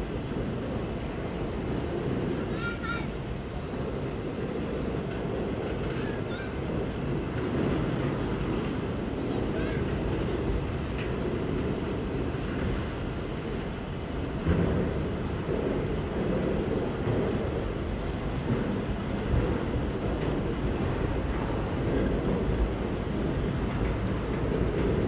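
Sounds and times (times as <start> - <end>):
freight train rumbling on rails: 0.0 - 25.0.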